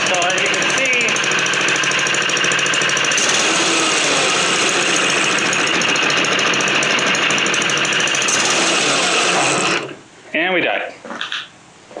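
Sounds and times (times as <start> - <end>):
mini bike engine running: 0.0 - 10.0.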